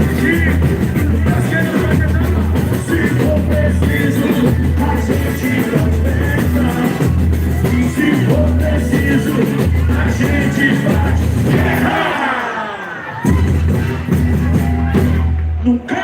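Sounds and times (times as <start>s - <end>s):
pulsing bass drum beat: 0.0s - 12.2s, 13.3s - 15.5s
live band playing: 0.0s - 16.0s.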